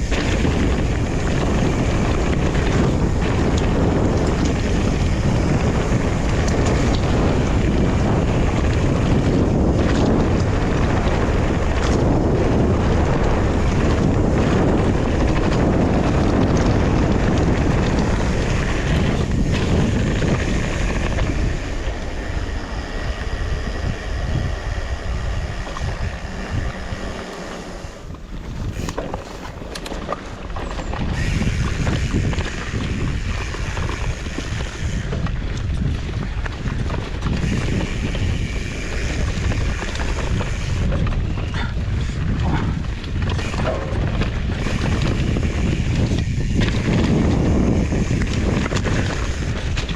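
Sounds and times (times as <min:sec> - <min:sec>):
mountain bike rumble and clatter: 0:00.0 - 0:49.9
wind on microphone: 0:00.0 - 0:49.9.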